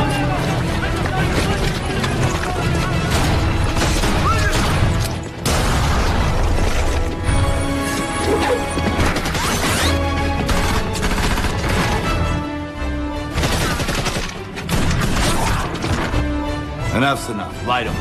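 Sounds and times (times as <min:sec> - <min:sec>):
dramatic orchestral music: 0:00.0 - 0:18.0.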